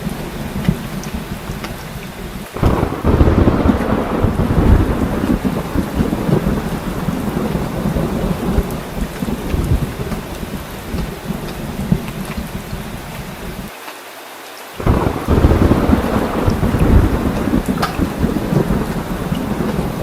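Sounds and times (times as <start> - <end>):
thunder clap and rumble: 0.0 - 13.7, 14.8 - 20.0
heavy rain falling: 0.0 - 20.0.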